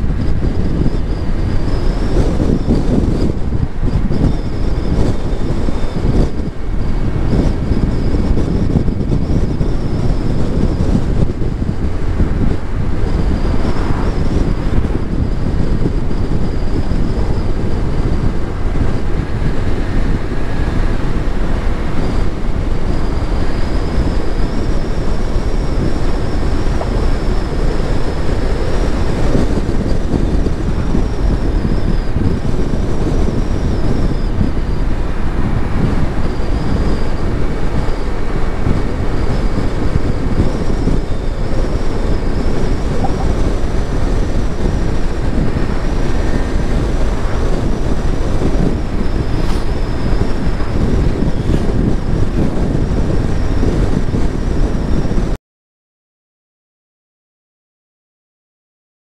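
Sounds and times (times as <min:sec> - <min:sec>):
car road and tyre noise: 0:00.0 - 0:55.4
faint high whine: 0:00.0 - 0:55.4.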